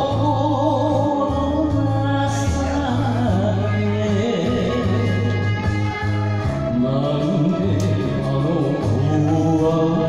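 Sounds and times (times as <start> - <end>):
karaoke backing track: 0.0 - 10.0
man singing into a microphone: 0.0 - 10.0.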